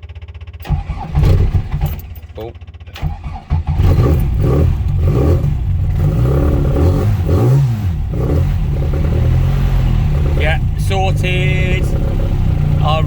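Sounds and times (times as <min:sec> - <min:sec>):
car engine revving: 0:00.6 - 0:13.0.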